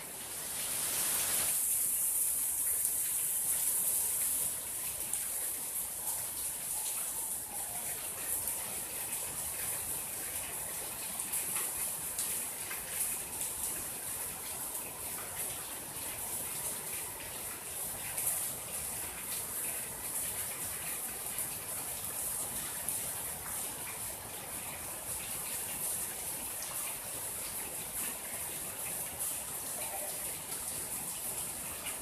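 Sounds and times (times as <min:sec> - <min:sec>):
steady rain hissing: 0:00.0 - 0:32.0.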